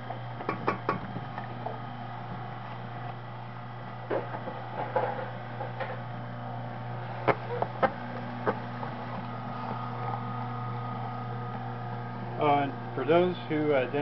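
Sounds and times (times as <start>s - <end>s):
juicer motor hum: 0.0s - 14.0s.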